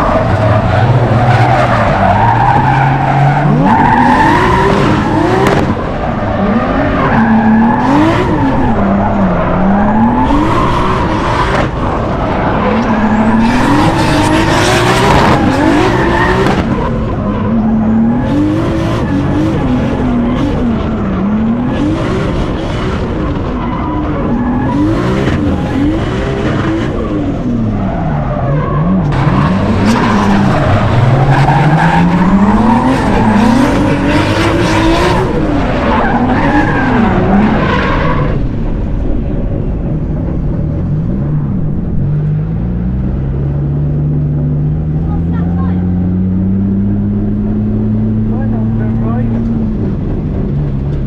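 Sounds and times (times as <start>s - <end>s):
tyres squealing and skidding: 0.0s - 42.1s
turbocharged car engine revving: 0.0s - 51.0s.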